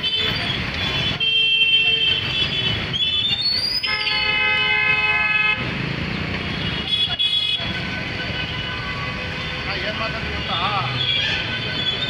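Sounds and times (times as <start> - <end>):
vehicle horns honking: 0.0 - 2.8, 3.7 - 5.7, 6.5 - 12.0
traffic noise: 0.0 - 12.0.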